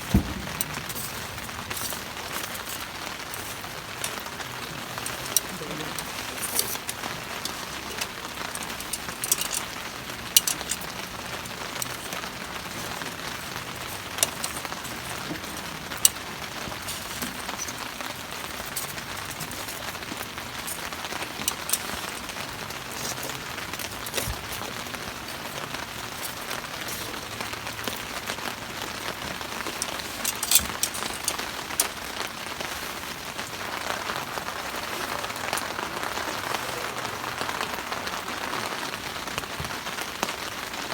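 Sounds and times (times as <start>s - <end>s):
raindrops tapping a surface: 0.0s - 40.9s
steady rain hiss: 0.0s - 40.9s.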